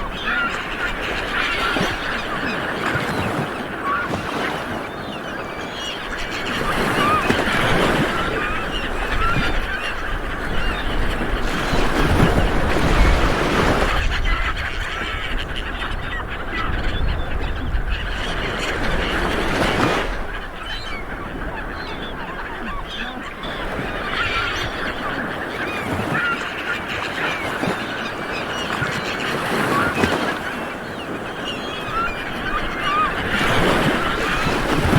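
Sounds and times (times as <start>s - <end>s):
light waves washing onto beach: 0.0s - 15.7s, 18.3s - 34.9s
birds calling: 0.0s - 34.9s.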